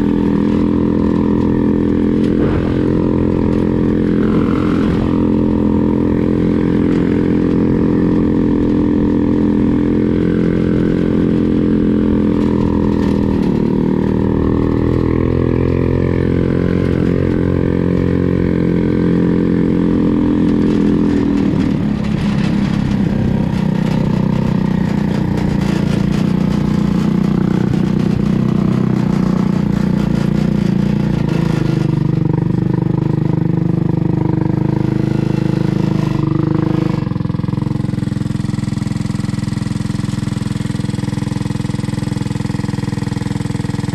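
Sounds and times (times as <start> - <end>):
buggy engine running: 0.0 - 43.9.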